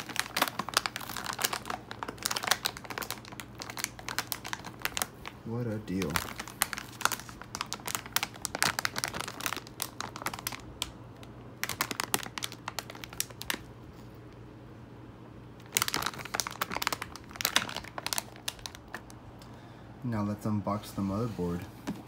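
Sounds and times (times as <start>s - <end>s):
anti-static bags crinkling: 0.0s - 14.3s, 15.6s - 19.3s
faint low hum: 0.0s - 22.0s.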